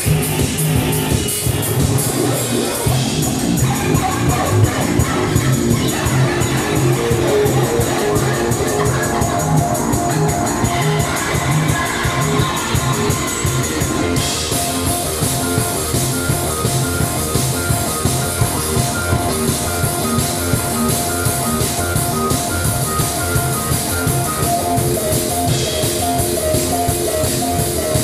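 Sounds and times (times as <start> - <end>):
electro-punk band playing: 0.0 - 28.0.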